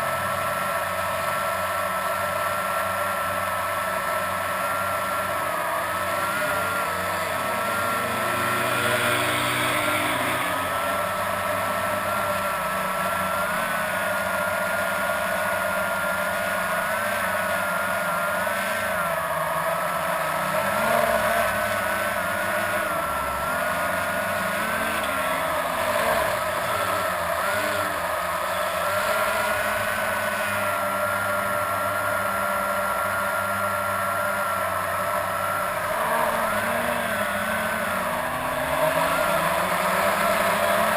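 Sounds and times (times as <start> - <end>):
quadcopter propellers humming: 0.0 - 40.9
race vehicle engines revving: 0.0 - 40.9.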